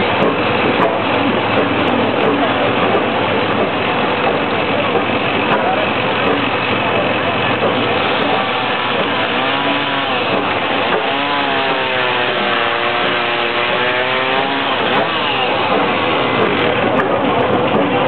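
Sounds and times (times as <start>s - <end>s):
sawmill running: 0.0s - 18.0s.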